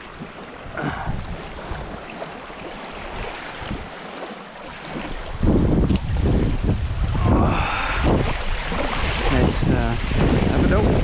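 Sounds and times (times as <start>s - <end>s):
running water rushing: 0.0s - 11.0s
wind buffeting microphone: 0.0s - 11.0s.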